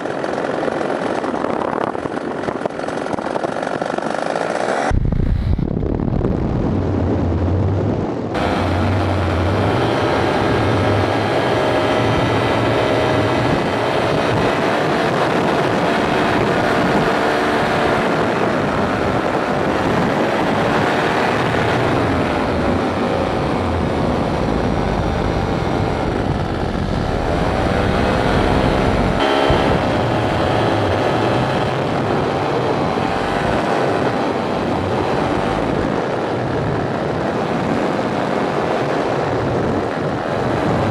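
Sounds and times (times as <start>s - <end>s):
paramotor engine and propeller: 0.0s - 40.9s.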